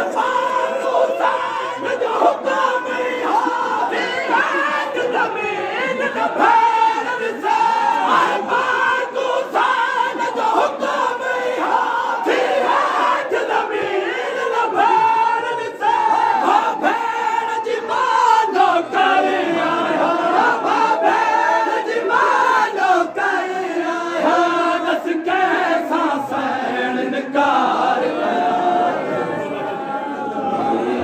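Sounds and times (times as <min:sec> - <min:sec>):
men chanting a lament: 0:00.0 - 0:31.0.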